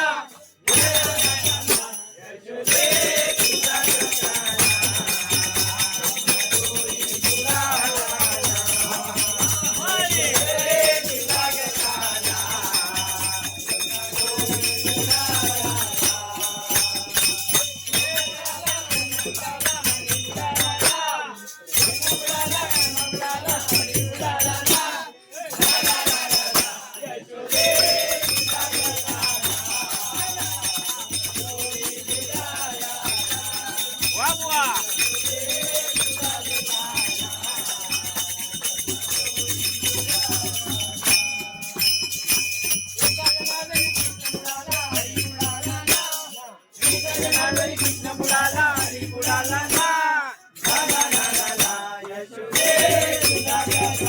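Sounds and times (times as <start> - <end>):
jingling hand percussion: 0.0 - 54.0
voices singing: 0.0 - 54.0.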